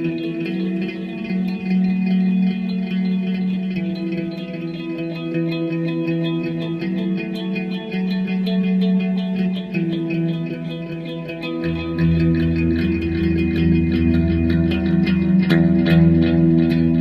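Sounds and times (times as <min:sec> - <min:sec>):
guitar with effects: 0:00.0 - 0:17.0.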